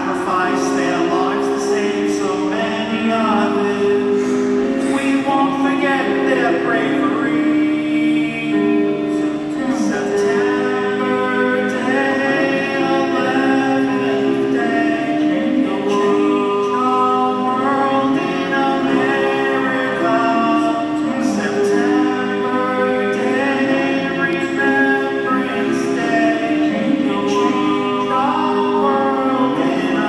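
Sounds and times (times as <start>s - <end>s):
man singing: 0.0s - 30.0s.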